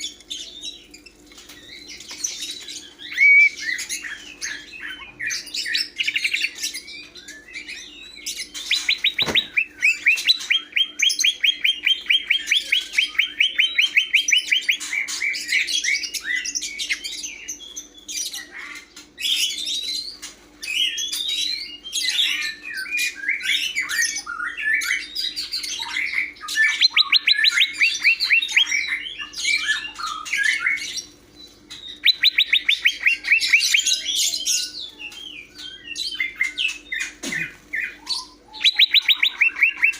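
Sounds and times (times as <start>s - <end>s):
bird trilling and chirping: 0.0s - 39.9s.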